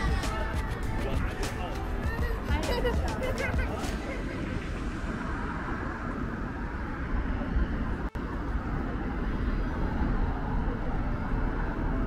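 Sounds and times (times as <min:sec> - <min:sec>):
cars passing with tyre noise: 0:00.0 - 0:12.0.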